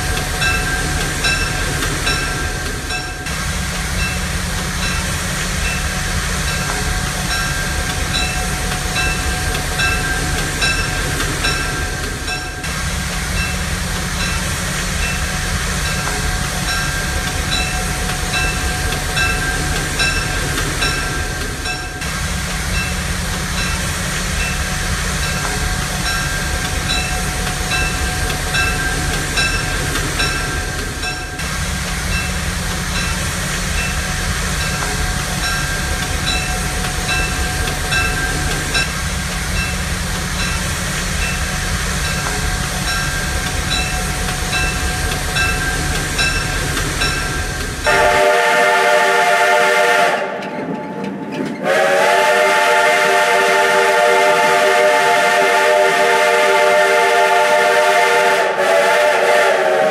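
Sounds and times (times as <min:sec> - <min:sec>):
train rumbling and clattering: 0:00.0 - 0:59.9.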